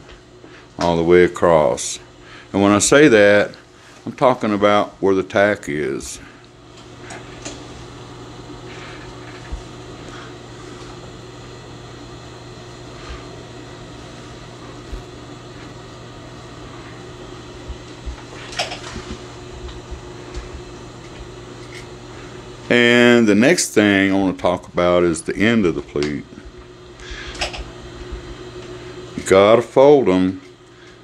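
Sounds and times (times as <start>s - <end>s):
low mechanical room hum: 0.0s - 31.0s.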